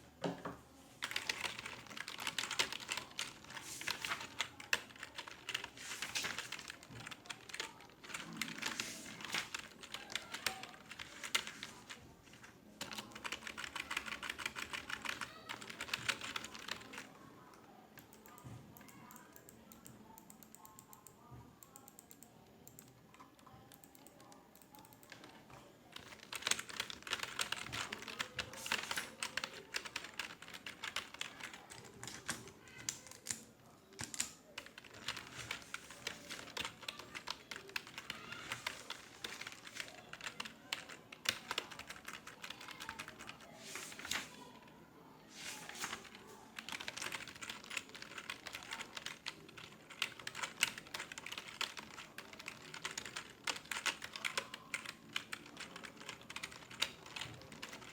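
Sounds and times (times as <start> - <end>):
rapid typing on keyboard: 1.0 - 17.1, 21.7 - 44.6, 45.4 - 57.9.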